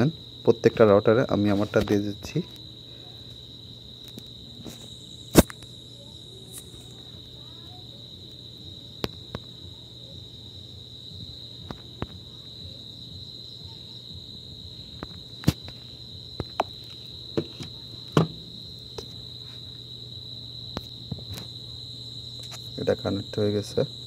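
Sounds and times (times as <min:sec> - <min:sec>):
high-pitched insect-like drone: 0:00.0 - 0:24.0.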